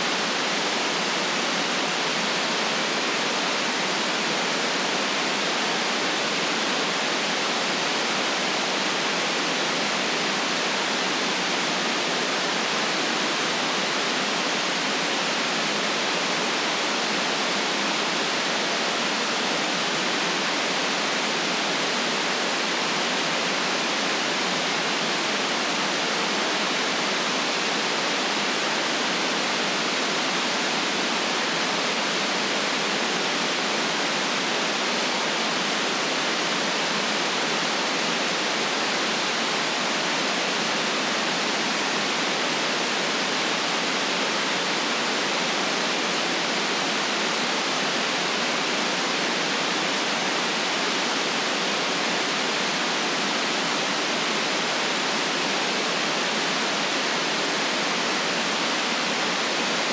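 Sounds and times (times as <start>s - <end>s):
synthetic white noise hiss: 0.0s - 59.9s.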